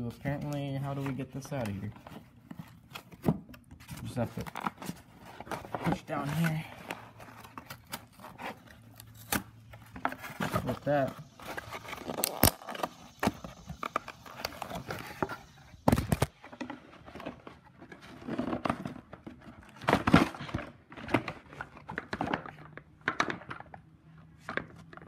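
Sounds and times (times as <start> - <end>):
cardboard rustling and scraping: 0.0 - 22.7.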